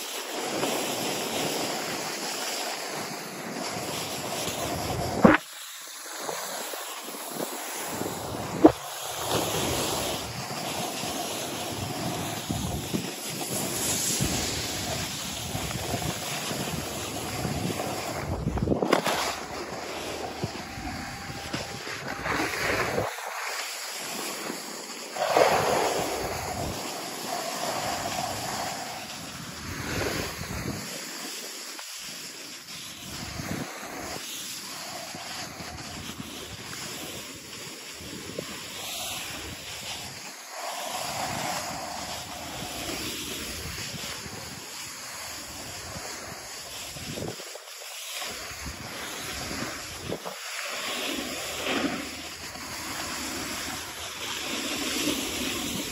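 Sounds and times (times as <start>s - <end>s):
skis sliding on packed snow: 0.0s - 55.9s
wind rushing over microphone: 3.5s - 5.5s, 6.1s - 30.9s, 33.0s - 47.5s, 48.3s - 55.9s.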